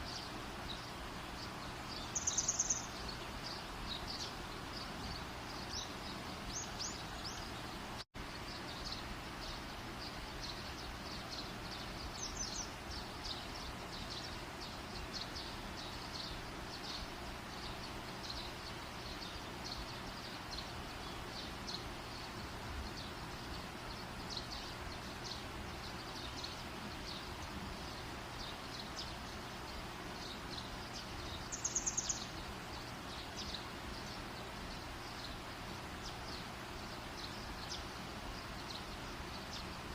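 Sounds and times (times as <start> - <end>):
outdoor chirping: 0.0 - 39.9.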